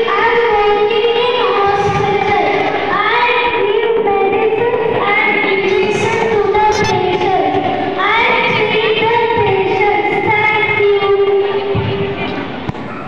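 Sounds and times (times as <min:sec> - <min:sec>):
child singing into microphone: 0:00.0 - 0:12.4.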